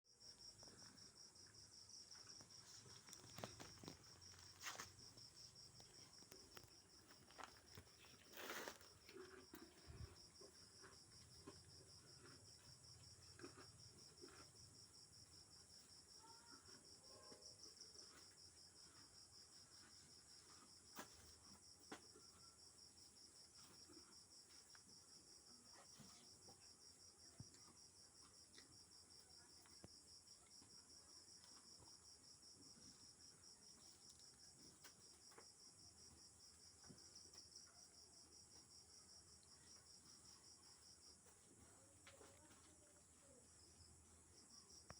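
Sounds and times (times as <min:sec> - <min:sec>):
crickets chirping: 0:00.1 - 0:44.9.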